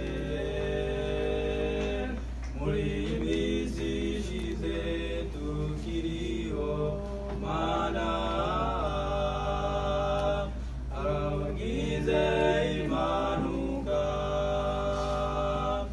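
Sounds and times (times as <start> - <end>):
male vocal quartet singing: 0.0 - 15.9
steady low hum: 0.0 - 15.9.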